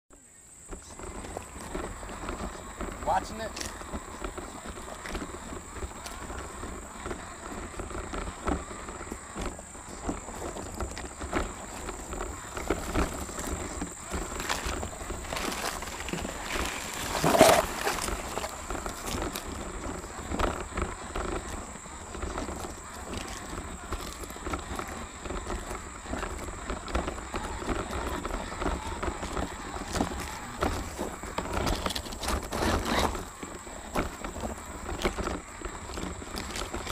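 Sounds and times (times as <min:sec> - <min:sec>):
toy car clattering over stones: 0:00.7 - 0:36.9.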